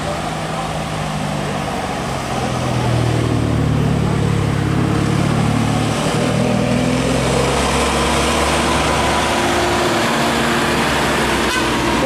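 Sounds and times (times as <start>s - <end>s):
bus engine running: 0.0s - 12.0s
passing traffic: 0.0s - 12.0s
road and tyre noise: 0.0s - 12.0s.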